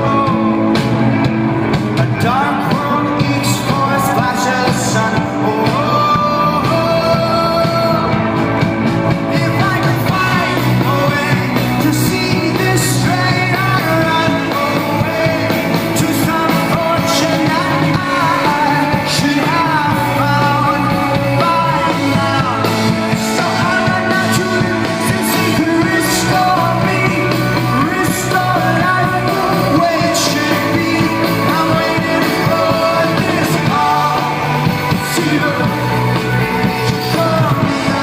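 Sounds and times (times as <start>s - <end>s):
live rock band playing: 0.0s - 38.0s
person singing: 0.0s - 38.0s.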